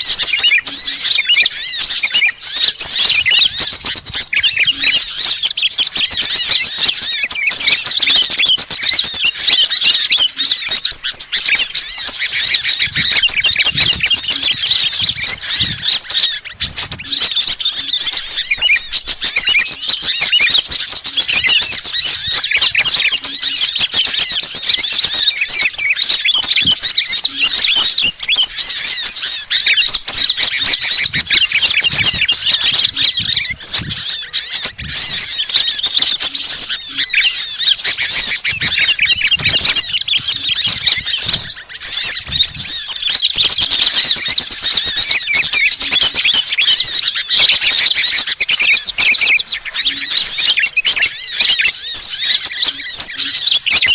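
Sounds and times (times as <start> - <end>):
small songbirds twittering: 0.0 - 53.9.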